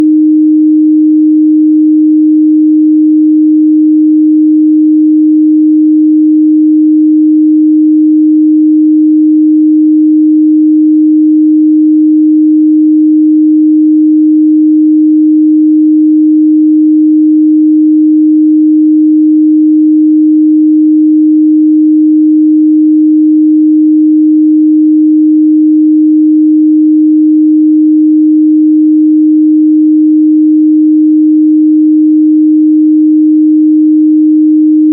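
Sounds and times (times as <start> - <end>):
sine test tone: 0.0 - 34.9.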